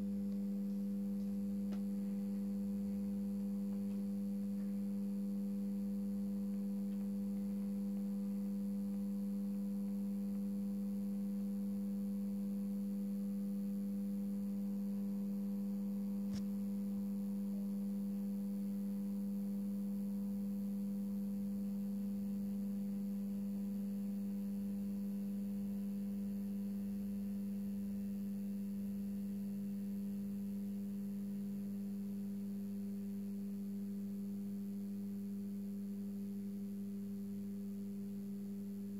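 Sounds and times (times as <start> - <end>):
lamp ballast electrical hum: 0.0 - 38.9.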